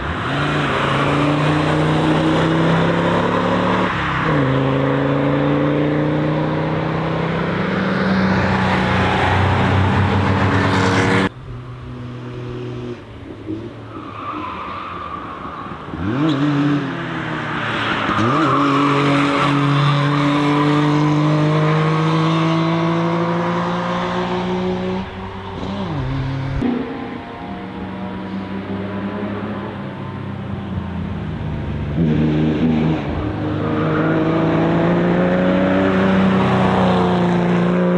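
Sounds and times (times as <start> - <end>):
race car engines: 0.0 - 37.9.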